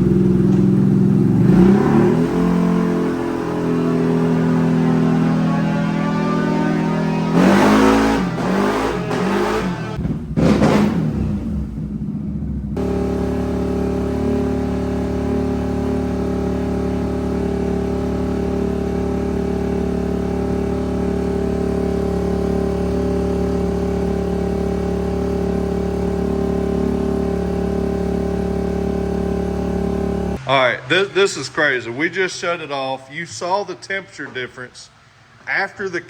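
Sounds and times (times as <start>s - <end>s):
engine running steadily: 0.0s - 30.5s.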